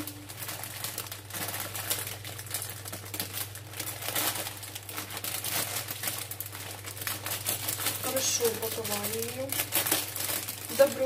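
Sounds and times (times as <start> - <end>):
plastic packaging crinkling: 0.0 - 11.0
steady low hum: 0.0 - 11.0.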